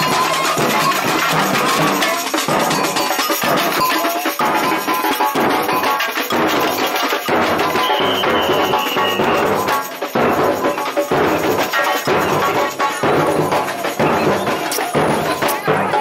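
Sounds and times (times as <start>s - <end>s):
snare and bass drums: 0.0s - 16.0s.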